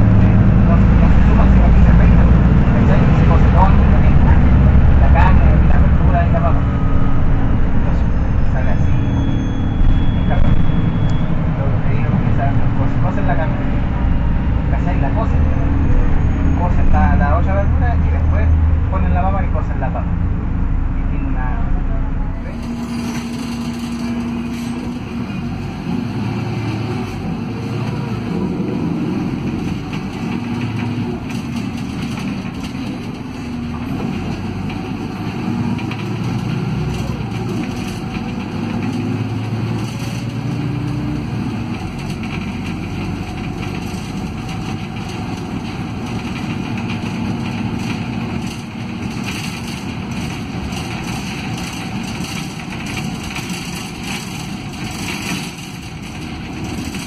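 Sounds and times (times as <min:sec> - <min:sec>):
bus engine drone: 0:00.0 - 0:57.0
gearbox whine: 0:00.0 - 0:57.0.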